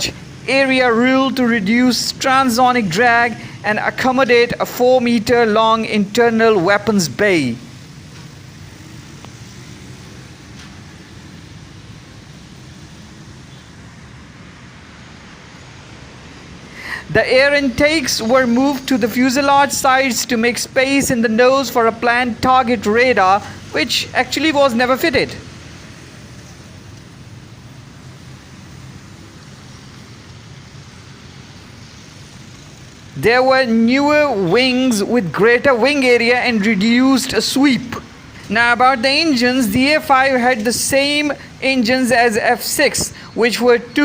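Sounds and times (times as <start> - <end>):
distant road traffic rumble: 0.0 - 44.0.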